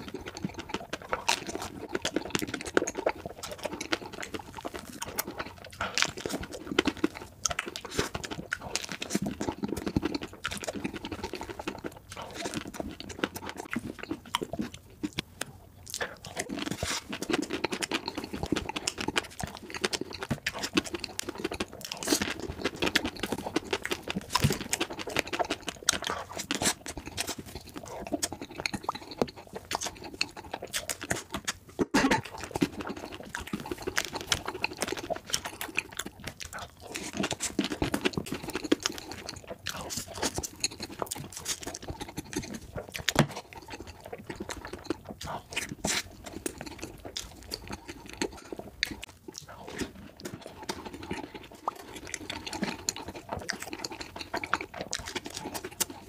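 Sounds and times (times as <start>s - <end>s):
chewing and crunching food: 0.0s - 56.0s
wet mouth clicks: 0.0s - 56.0s.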